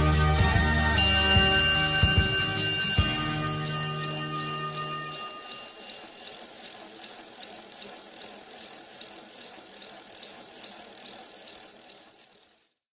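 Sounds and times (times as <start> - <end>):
bicycle freewheel ticking: 0.0 - 12.9.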